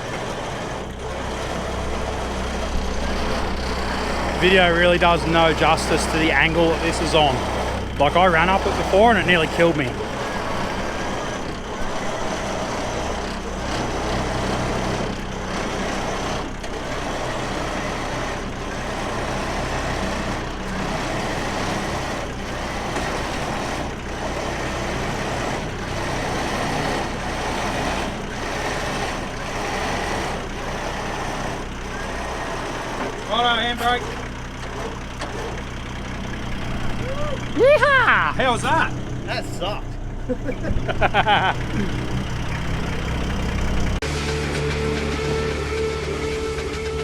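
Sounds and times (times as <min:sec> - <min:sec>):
truck engine running: 0:00.0 - 0:47.0.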